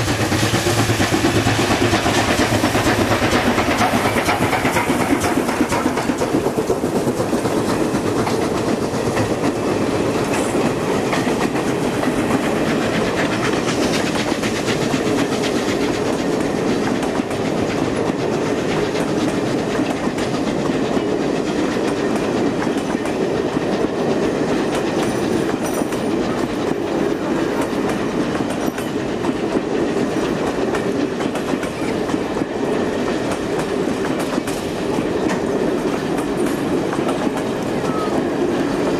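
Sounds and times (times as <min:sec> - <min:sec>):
train rolling rumble: 0:00.0 - 0:38.9
train wheels clicking over rail joints: 0:00.0 - 0:38.9.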